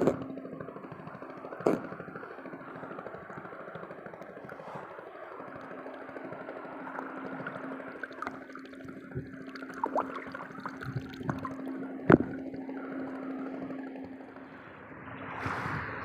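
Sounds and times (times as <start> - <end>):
water sloshing and gurgling: 0.0 - 14.6
steady hum: 0.0 - 16.0.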